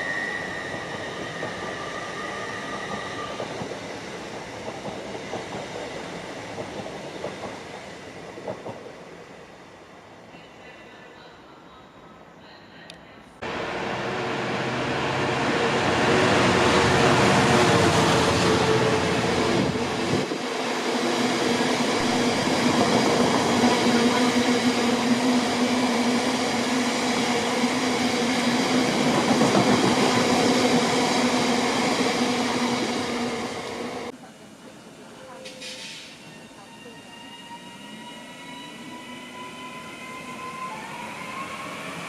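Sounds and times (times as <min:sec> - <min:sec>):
train rolling past: 0:00.0 - 0:10.7, 0:13.4 - 0:42.0.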